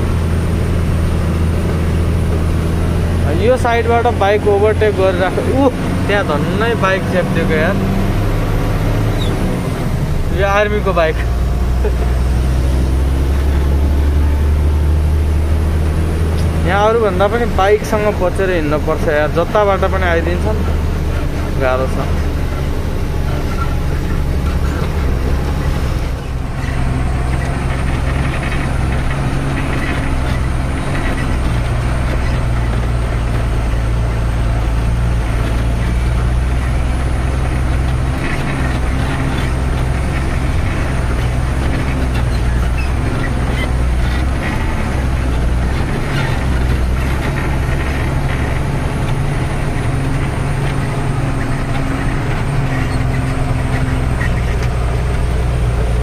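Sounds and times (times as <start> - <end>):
road noise: 0.0 - 56.0
truck diesel engine humming: 0.0 - 56.0.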